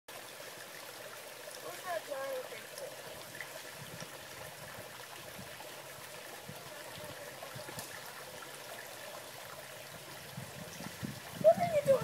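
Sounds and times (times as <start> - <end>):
water trickling: 0.1 - 12.0.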